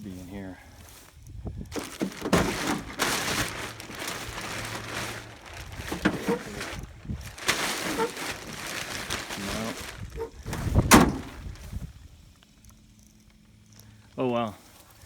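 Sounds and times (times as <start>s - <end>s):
rustling crackling noise: 0.7s - 13.8s.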